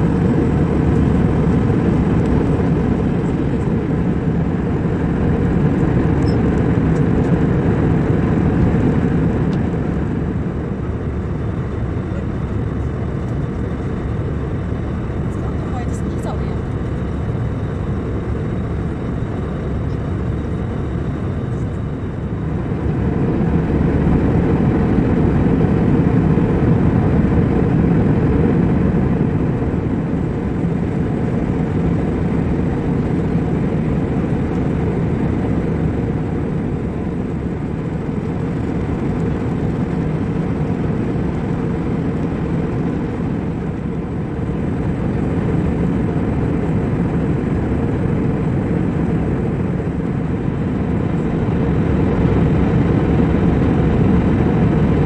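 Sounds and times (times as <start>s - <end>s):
airliner cabin jet rumble: 0.0s - 55.0s.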